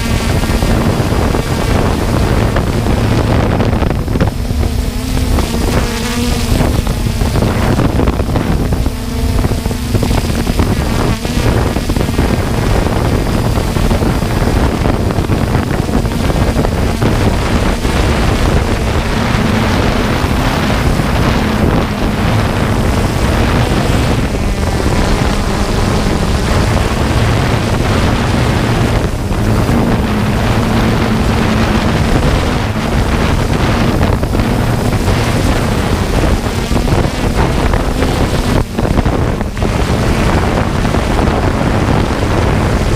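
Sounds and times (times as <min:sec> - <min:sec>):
quadcopter propellers humming: 0:00.0 - 0:42.9
wind noise on microphone: 0:00.0 - 0:42.9.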